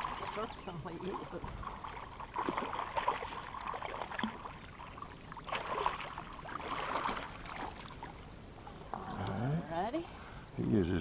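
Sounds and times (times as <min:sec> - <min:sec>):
water splashing: 0:00.0 - 0:09.2.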